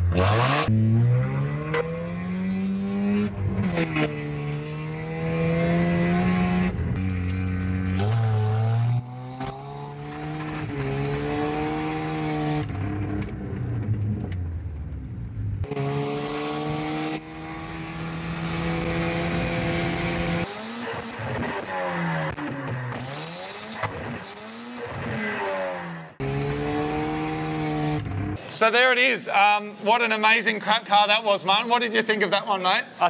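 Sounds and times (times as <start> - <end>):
engine revving at tailpipe: 0.0 - 14.5, 15.6 - 28.4
car engine while driving: 0.0 - 28.4.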